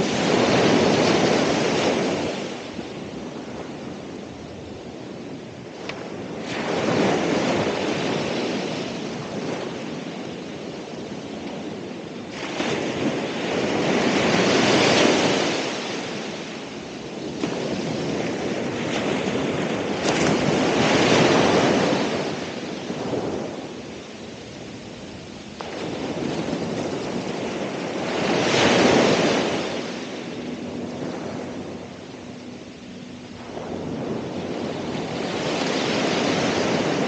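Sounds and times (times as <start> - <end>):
ocean waves breaking on shore: 0.0 - 37.0.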